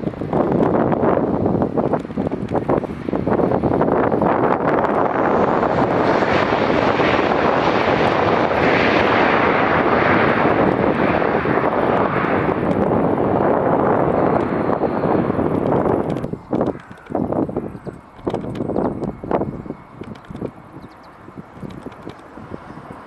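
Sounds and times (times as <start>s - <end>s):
jet airliner landing: 0.0s - 23.0s.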